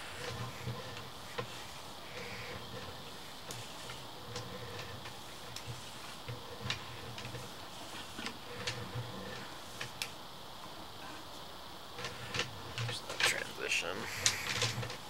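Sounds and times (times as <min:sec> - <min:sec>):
cable reel clicking: 0:00.0 - 0:10.2, 0:11.9 - 0:13.5, 0:14.1 - 0:15.0.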